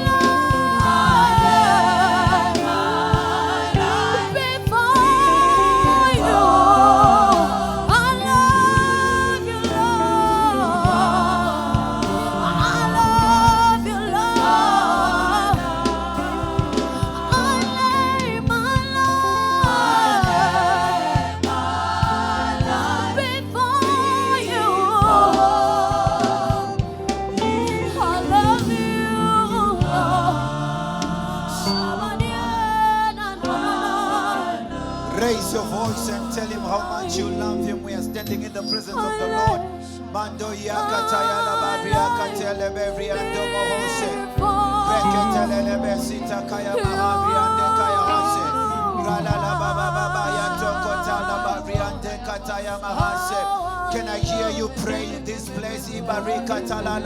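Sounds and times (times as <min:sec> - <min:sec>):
gospel voices singing together: 0:00.0 - 0:57.0
instrumental backing: 0:00.0 - 0:57.0.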